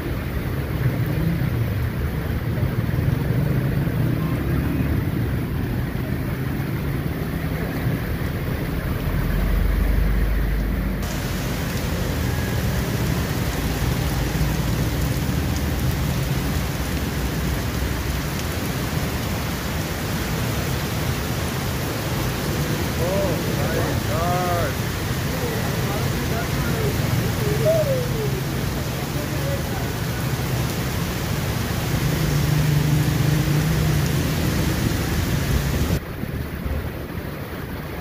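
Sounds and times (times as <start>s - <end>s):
rickshaw and motorcycle engines: 0.0s - 36.0s
heavy rain hiss: 0.0s - 38.0s
tyres swishing through water: 0.0s - 38.0s.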